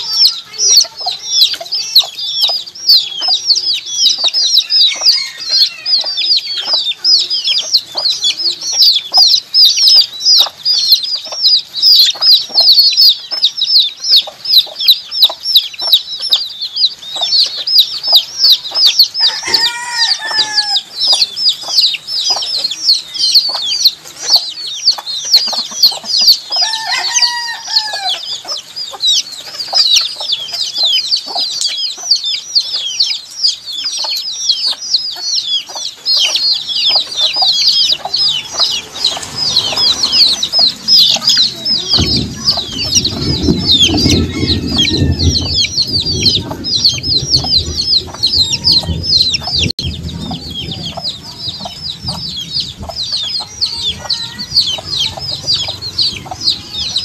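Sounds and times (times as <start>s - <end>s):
baby chicks peeping: 0.0s - 57.0s
drawn-out bird call: 0.0s - 57.0s.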